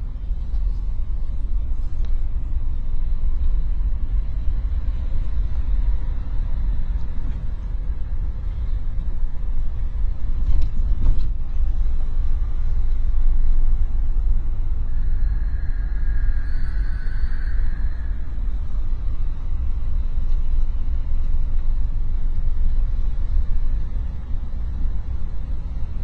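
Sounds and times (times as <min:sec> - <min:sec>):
van engine and road rumble: 0:00.0 - 0:26.0.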